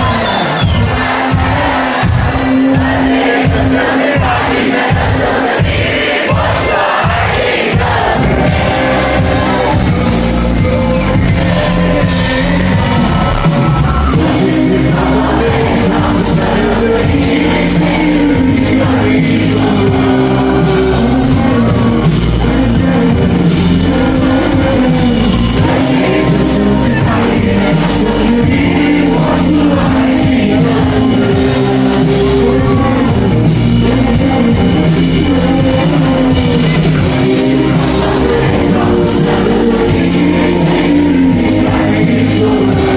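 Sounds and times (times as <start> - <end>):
live rock band playing: 0.0 - 42.9
person singing: 0.0 - 42.9.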